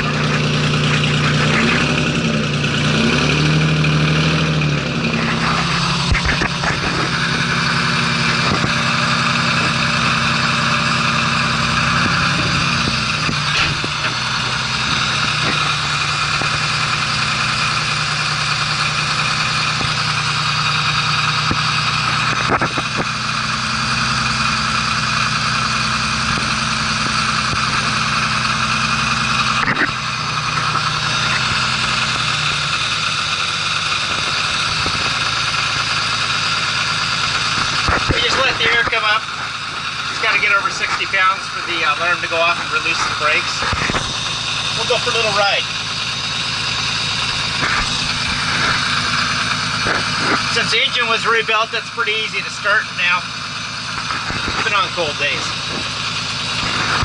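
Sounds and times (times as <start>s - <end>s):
truck engine revving and idling: 0.0s - 57.0s.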